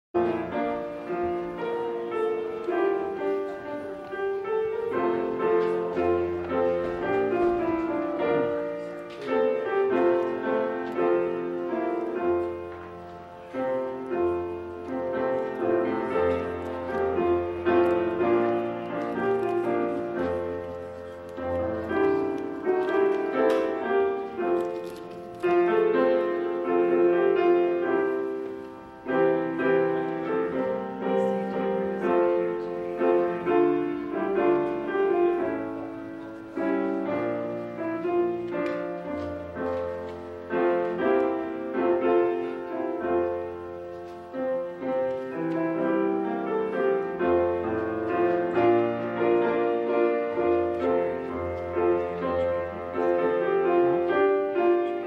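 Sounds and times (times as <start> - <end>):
grand piano playing: 0.1 - 55.0.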